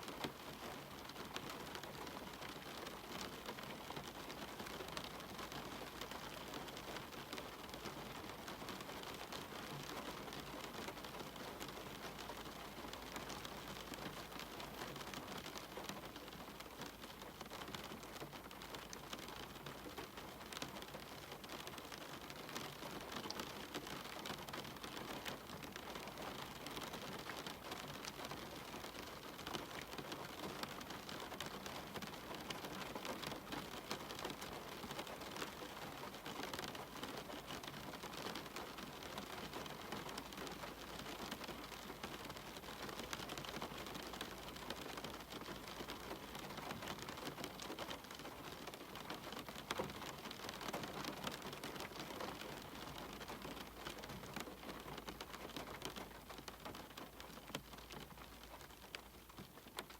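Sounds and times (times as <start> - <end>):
rain hiss on window: 0.0 - 59.9
raindrops ticking: 0.1 - 59.9.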